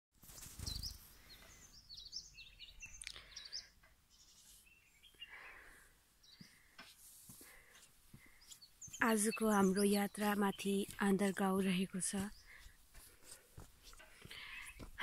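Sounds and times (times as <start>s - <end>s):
faint birds chirping: 0.2s - 15.0s.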